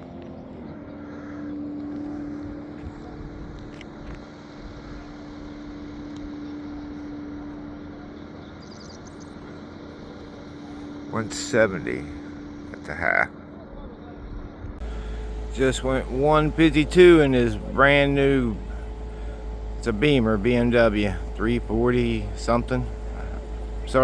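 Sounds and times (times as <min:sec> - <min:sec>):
distant vehicle engine running: 0:00.0 - 0:24.0.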